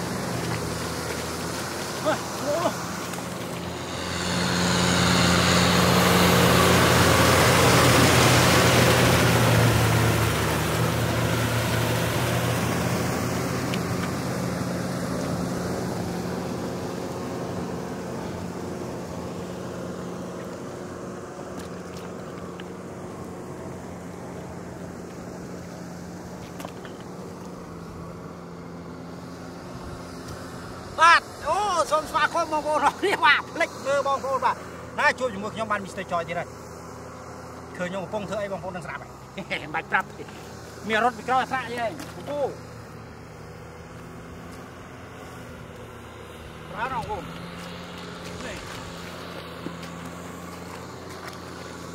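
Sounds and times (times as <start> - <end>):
tractor engine running: 0.0 - 35.8, 36.5 - 51.9.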